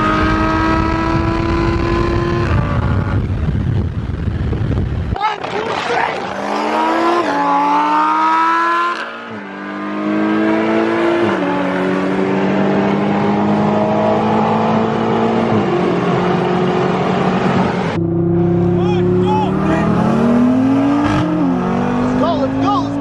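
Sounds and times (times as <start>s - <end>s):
car engine at full throttle: 0.0s - 23.0s.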